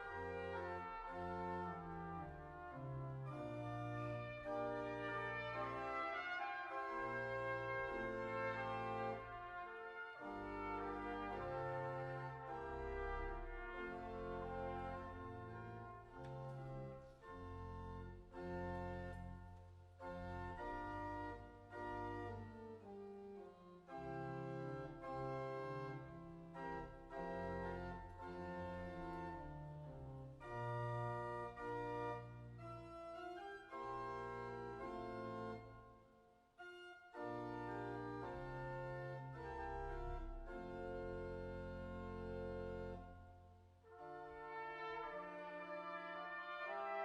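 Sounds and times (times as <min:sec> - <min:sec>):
organ playing sustained chords: 0:00.0 - 0:47.0.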